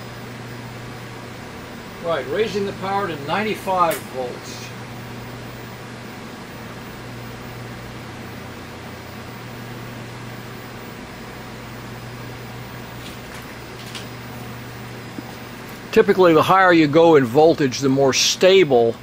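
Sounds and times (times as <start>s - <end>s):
low electrical hum with hiss: 0.0s - 19.0s.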